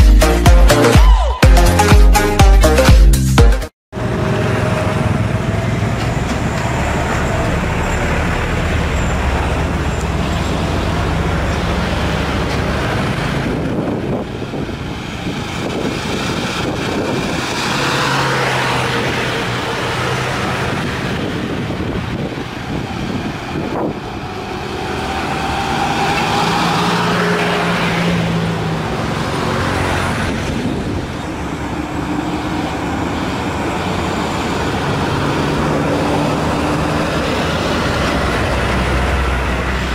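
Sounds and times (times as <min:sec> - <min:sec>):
cars and motorcycles passing: 0:03.9 - 0:39.9
diesel trucks grinding uphill: 0:03.9 - 0:39.9.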